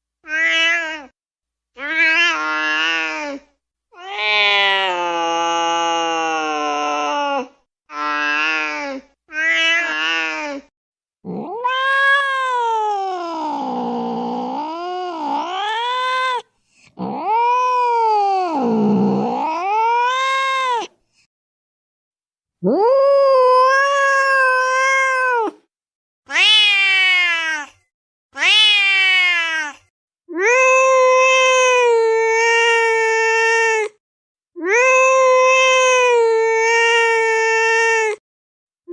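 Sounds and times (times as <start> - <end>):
cat wailing meows: 0.2 - 1.1, 1.8 - 3.4, 4.0 - 8.7, 9.3 - 10.6, 11.3 - 20.9, 22.6 - 25.6, 26.3 - 27.8, 28.4 - 34.0, 34.6 - 38.2.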